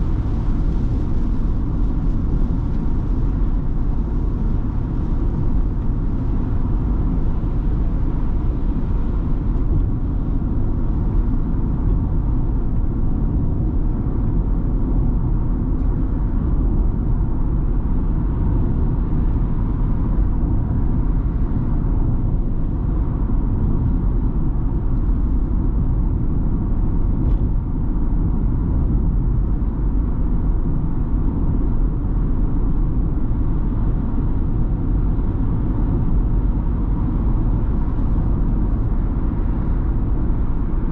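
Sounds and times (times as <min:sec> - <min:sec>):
van engine and road noise: 0:00.0 - 0:40.9.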